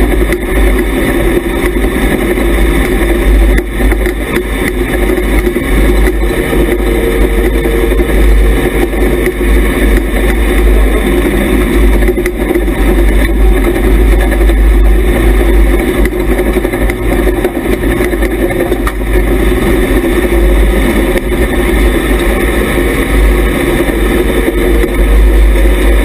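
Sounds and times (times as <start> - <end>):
race car engine running hard: 0.0 - 26.0.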